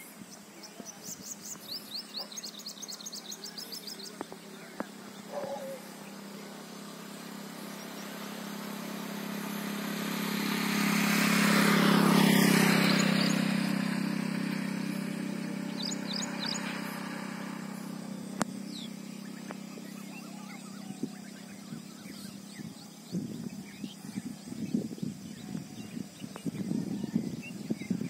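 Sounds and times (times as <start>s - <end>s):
bird chirps: 0.6s - 8.3s, 12.4s - 28.0s
motor vehicle passing by: 0.8s - 28.0s.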